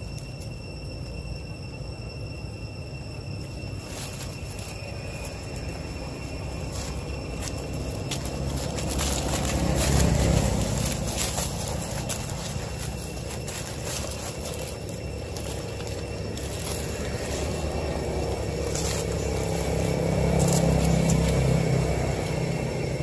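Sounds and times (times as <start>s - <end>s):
low rumble: 0.0s - 23.0s
dry leaves scraping and crackling: 3.4s - 23.0s.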